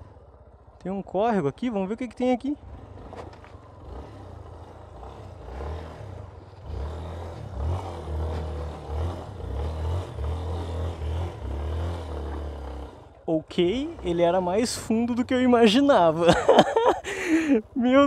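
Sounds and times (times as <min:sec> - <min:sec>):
motorcycle engine: 0:00.0 - 0:18.0.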